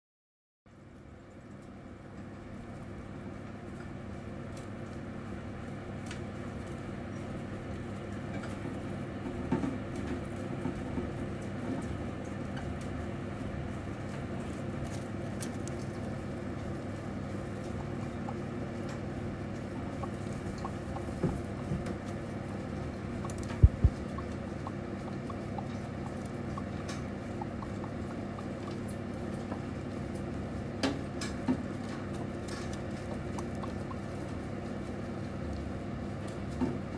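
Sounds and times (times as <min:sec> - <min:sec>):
mice scrabbling in bedding: 0:02.3 - 0:36.9.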